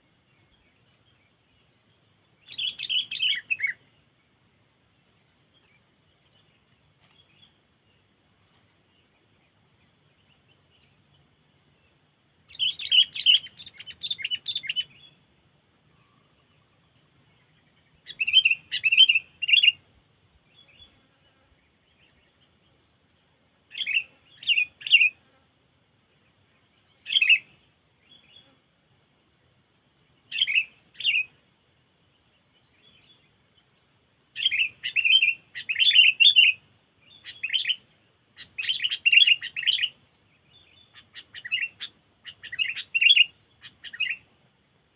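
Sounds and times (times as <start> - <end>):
bird chirping: 0.0 - 25.4, 26.2 - 28.6, 30.0 - 31.4, 32.0 - 44.5.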